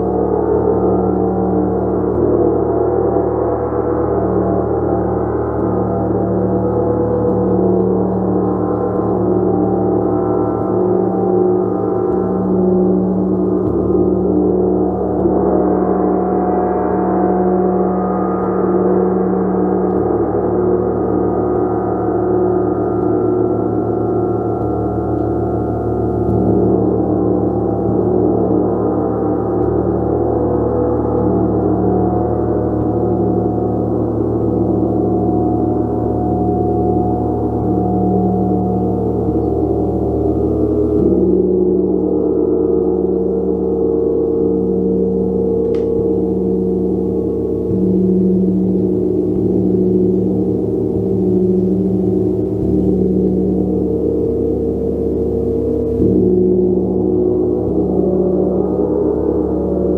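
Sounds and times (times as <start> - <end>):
gong played continuously: 0.0 - 59.9.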